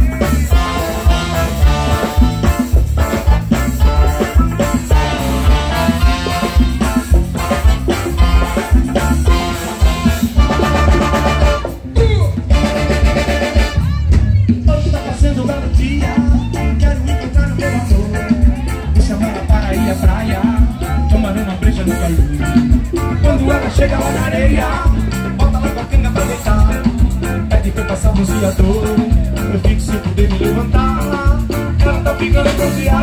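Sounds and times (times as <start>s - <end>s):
live brass band music: 0.0s - 33.0s.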